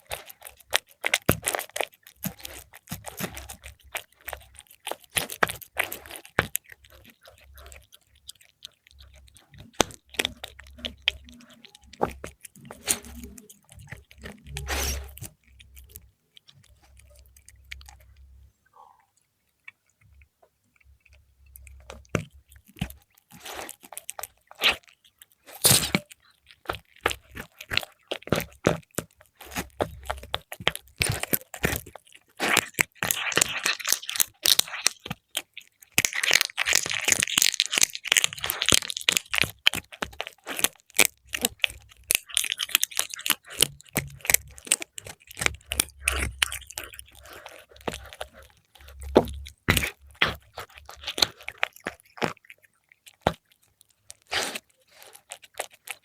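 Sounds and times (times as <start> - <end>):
cat chewing and crunching: 0.0 - 56.0.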